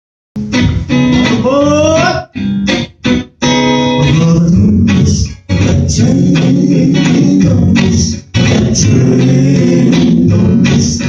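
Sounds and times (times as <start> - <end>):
guitar: 0.4 - 11.0
live band playing: 0.4 - 11.0.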